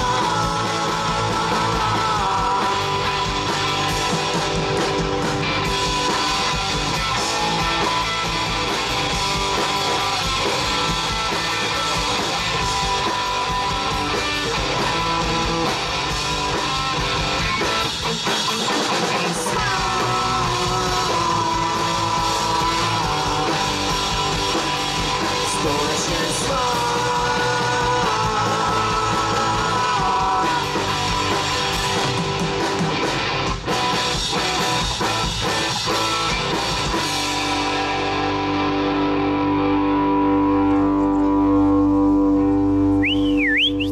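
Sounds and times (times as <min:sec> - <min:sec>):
drum kit: 0:00.0 - 0:39.6
bass guitar: 0:00.0 - 0:43.9
electric guitar: 0:00.0 - 0:43.9.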